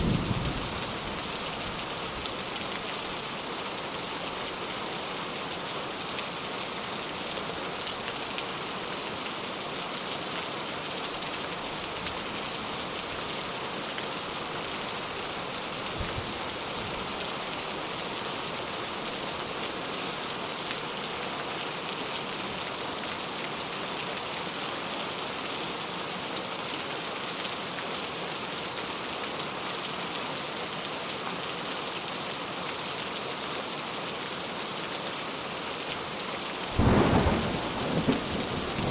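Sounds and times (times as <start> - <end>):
rain pattering on surface: 0.0 - 38.9.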